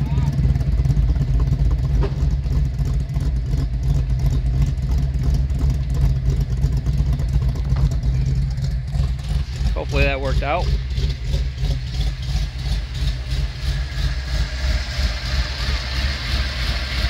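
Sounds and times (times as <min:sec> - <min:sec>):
car engine exhaust at low speed: 0:00.0 - 0:17.0.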